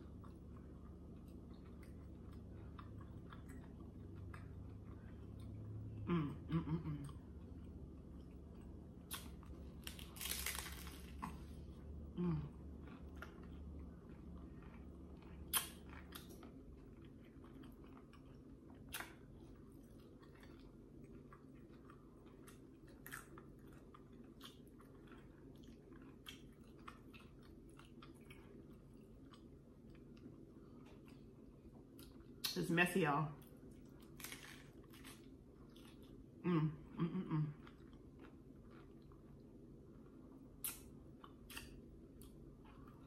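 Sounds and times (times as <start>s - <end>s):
crunchy taco chewing: 0.0s - 6.2s, 7.0s - 32.6s, 33.4s - 36.4s, 37.6s - 43.0s.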